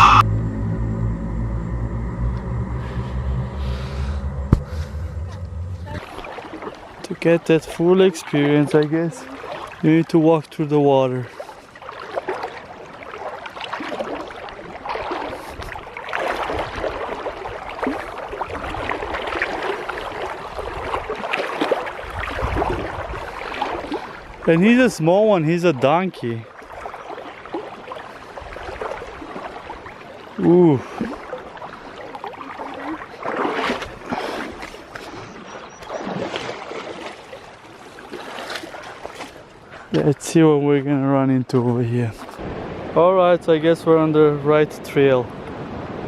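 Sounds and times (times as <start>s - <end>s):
creek water splashing: 3.6s - 43.7s.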